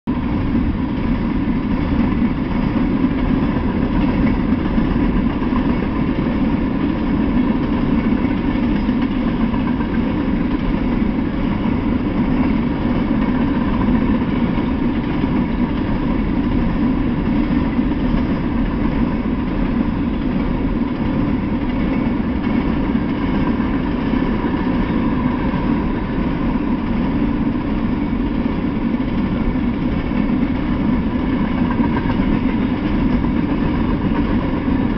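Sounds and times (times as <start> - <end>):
freight train wheels on track: 0.0 - 34.9.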